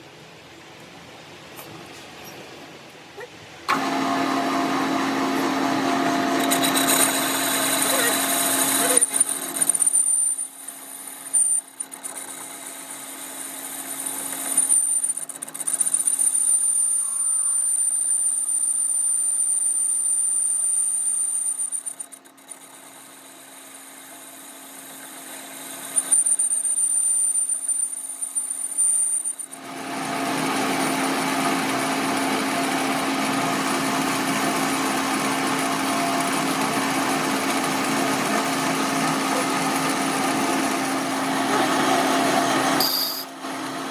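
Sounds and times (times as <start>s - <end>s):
workshop machinery humming: 3.6s - 27.1s, 27.9s - 43.9s
harsh even machine noise: 3.7s - 43.9s
high machine whine: 3.7s - 43.9s.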